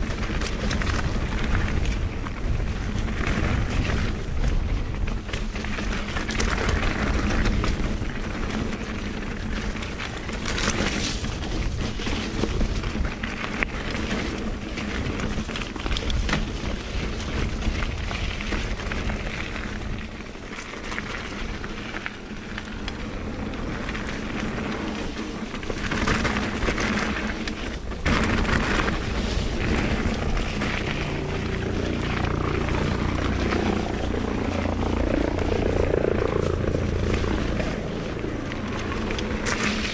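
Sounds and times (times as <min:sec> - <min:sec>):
bike tyres rumbling on dirt: 0:00.0 - 0:39.9
wind rushing over microphone: 0:00.0 - 0:39.9.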